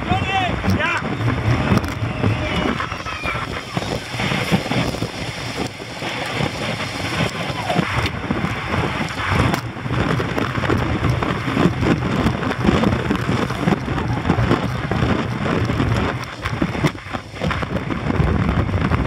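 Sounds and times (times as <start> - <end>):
tyre and road rumble: 0.0 - 19.0
wind rushing over microphone: 0.0 - 19.0.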